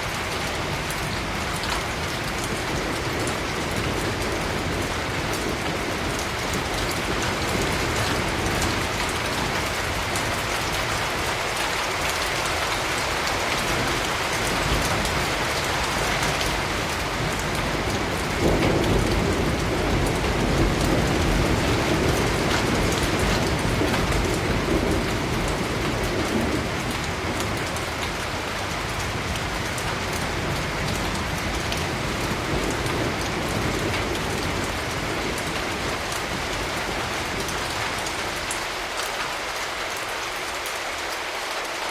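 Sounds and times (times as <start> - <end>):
thunder rolling: 0.0 - 11.3, 13.6 - 38.5
steady rain: 0.0 - 41.9.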